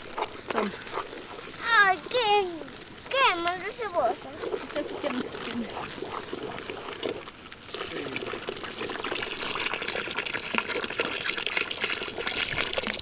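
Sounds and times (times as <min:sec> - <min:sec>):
liquid pouring into water: 0:00.0 - 0:13.0.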